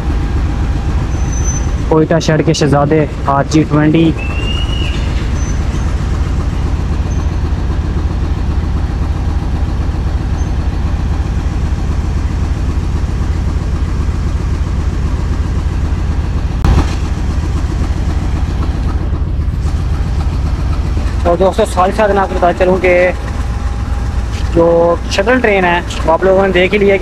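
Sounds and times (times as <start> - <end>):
diesel locomotive engine rumbling: 0.0 - 27.0
train wheels rattling over track: 0.0 - 27.0.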